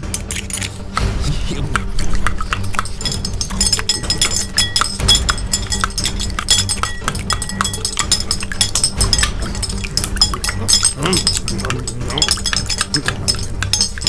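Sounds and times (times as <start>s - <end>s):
glass or crockery clinking: 0.0s - 14.0s.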